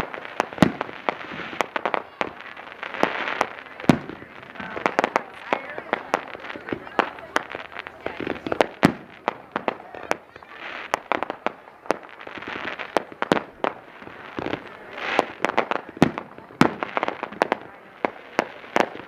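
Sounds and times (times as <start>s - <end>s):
firework shells bursting: 0.0s - 17.6s
firework crackle: 0.0s - 19.0s.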